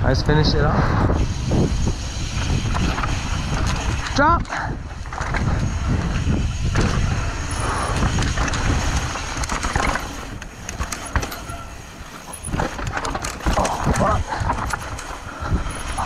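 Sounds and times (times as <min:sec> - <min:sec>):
wind rumbling on microphone: 0:00.0 - 0:16.0
bike rattling and knocking: 0:01.1 - 0:16.0
tyres rolling over dirt and rock: 0:01.3 - 0:16.0.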